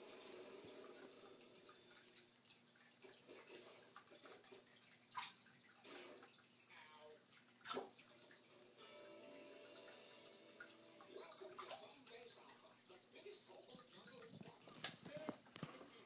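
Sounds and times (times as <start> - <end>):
water splashing in a dish: 0.0 - 16.0.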